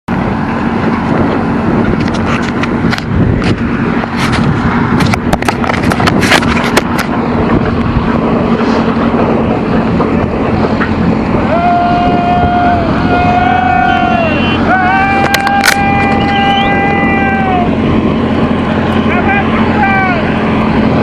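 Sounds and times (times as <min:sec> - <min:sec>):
vehicle engine running: 0:00.1 - 0:21.0.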